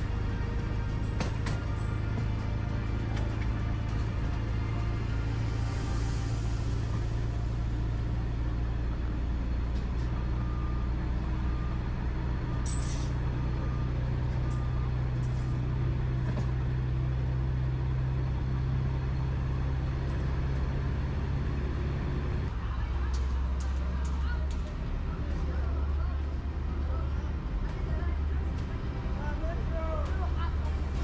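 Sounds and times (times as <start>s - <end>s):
diesel locomotive engine droning: 0.0s - 31.0s.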